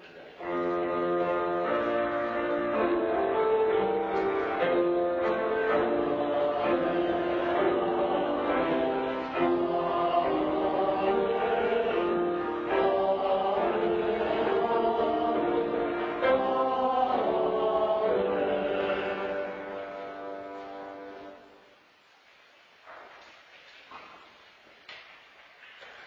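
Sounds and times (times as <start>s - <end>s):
group singing a slow hymn: 0.5s - 21.4s.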